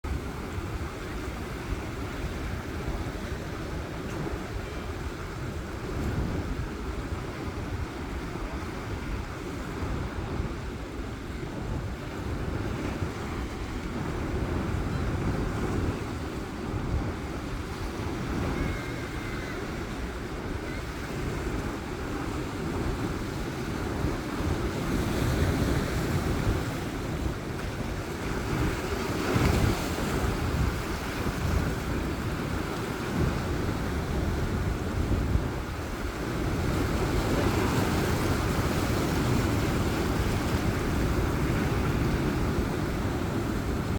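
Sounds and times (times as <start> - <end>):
sea waves washing in: 0.0 - 43.9
wind buffeting microphone: 0.0 - 43.9.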